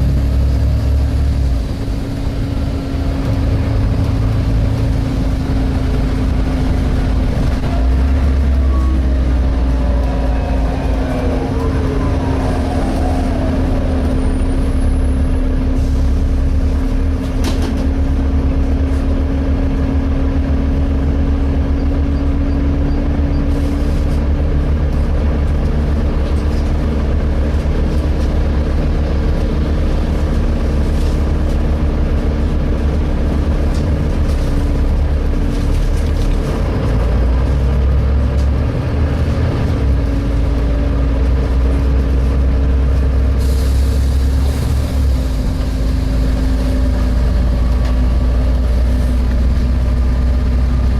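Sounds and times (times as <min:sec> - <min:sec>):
bus engine rumble: 0:00.0 - 0:50.9.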